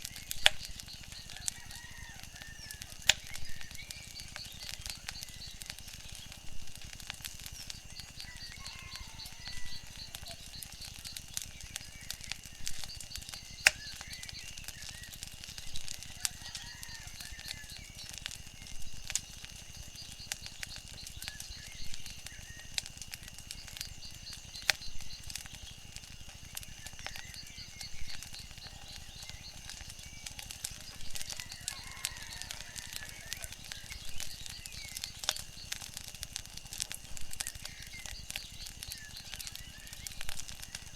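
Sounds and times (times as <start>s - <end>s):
faint chirps: 0.0s - 40.9s
fire popping: 0.0s - 40.9s
wood fire crackling: 0.0s - 40.9s.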